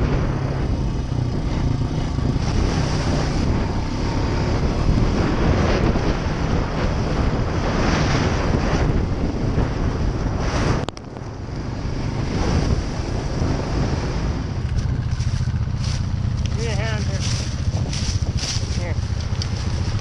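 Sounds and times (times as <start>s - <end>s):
atv engine running: 0.0s - 20.0s
wind noise on microphone: 0.0s - 20.0s.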